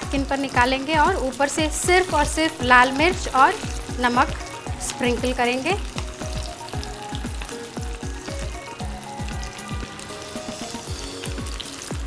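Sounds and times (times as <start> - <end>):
background music with beat: 0.0 - 12.0
oil sizzling: 0.0 - 12.0.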